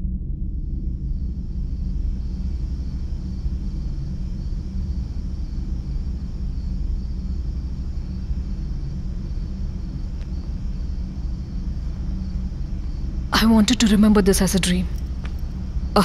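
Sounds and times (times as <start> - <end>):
insects chirring: 0.5 - 16.0.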